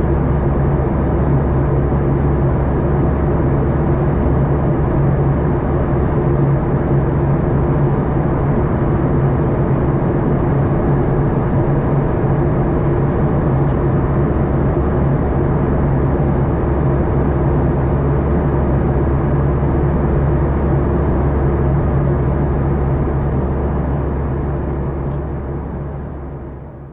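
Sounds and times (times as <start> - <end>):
airplane cabin drone: 0.0 - 26.9.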